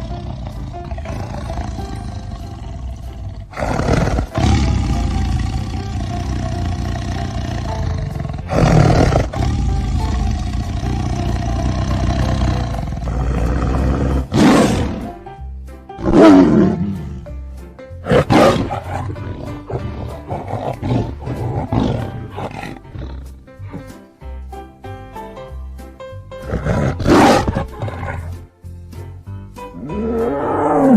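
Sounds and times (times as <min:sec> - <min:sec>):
tiger roaring: 0:00.0 - 0:15.2, 0:16.0 - 0:17.3, 0:18.0 - 0:23.4, 0:26.4 - 0:28.4, 0:29.8 - 0:30.9
music: 0:00.0 - 0:30.9.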